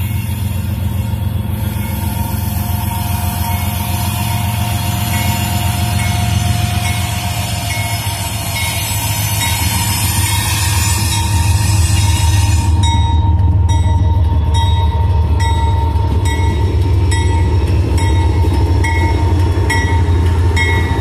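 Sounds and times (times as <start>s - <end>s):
locomotive engines rumbling: 0.0s - 21.0s.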